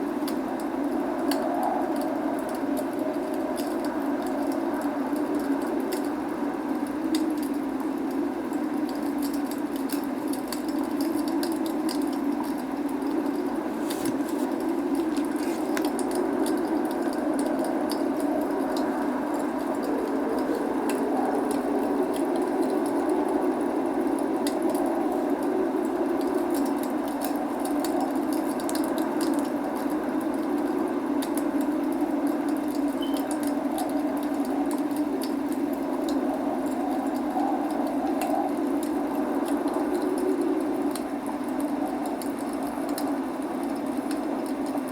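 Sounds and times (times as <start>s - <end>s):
log fire crackling and popping: 0.0s - 44.9s
rain rushing: 0.0s - 44.9s.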